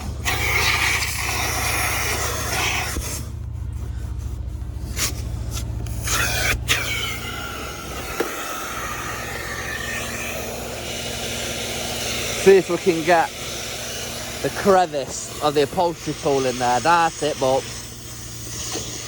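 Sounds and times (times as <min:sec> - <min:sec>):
rasping hiss of water suction: 0:00.0 - 0:19.0
vacuum motor running: 0:00.0 - 0:19.0.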